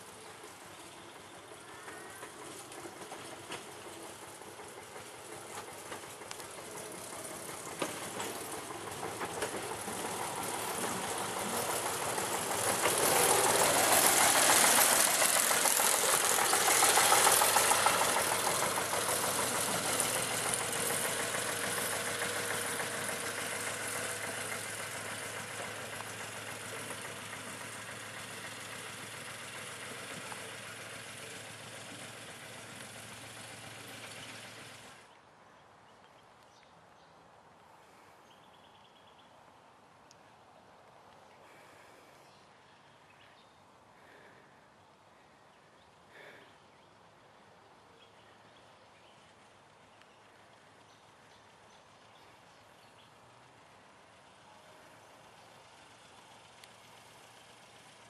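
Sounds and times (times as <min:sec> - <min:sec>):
diesel locomotive engine passing: 0:00.0 - 0:35.2, 0:41.5 - 0:58.0.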